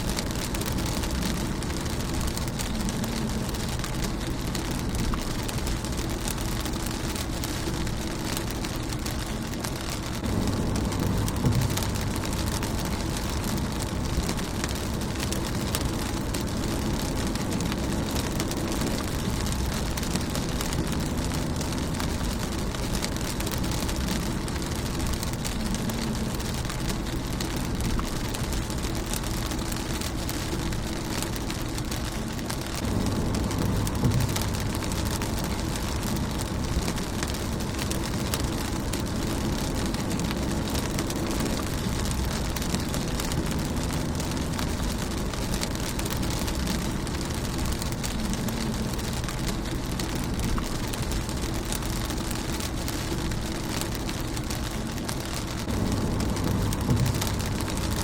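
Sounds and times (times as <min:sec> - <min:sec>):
low rumble: 0:00.0 - 0:58.0
rain pattering on windshield: 0:00.0 - 0:58.0.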